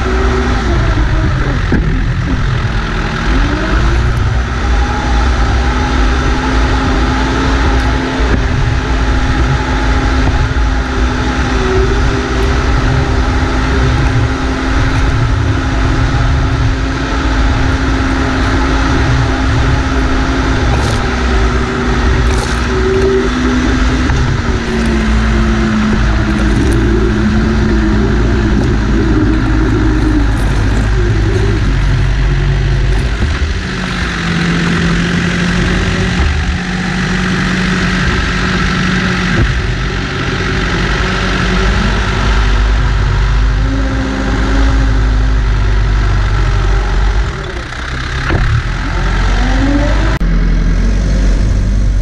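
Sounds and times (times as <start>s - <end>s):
backhoe diesel engine running: 0.0s - 52.0s.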